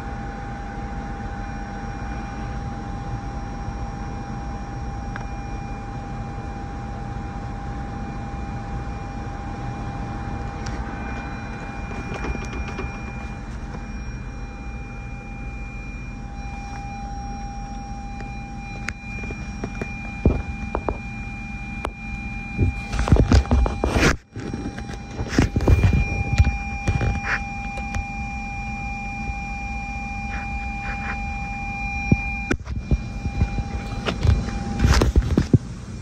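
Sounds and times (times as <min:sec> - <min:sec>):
blower fan running: 0:00.0 - 0:36.0.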